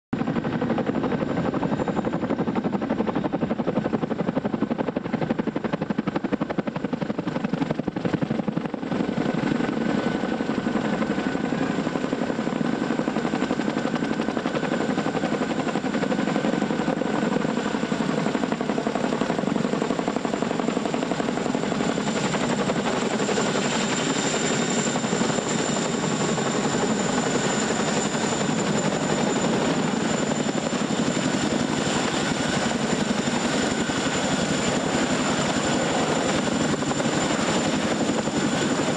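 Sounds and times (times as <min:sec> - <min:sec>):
helicopter rotor noise: 0:00.2 - 0:38.9.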